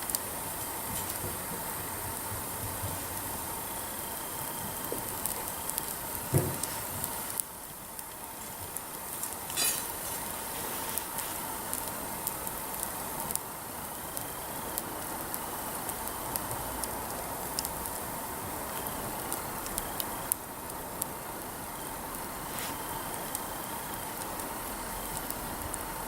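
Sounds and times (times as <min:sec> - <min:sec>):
fire hissing: 0:00.0 - 0:26.0
wood campfire crackling: 0:00.0 - 0:26.0.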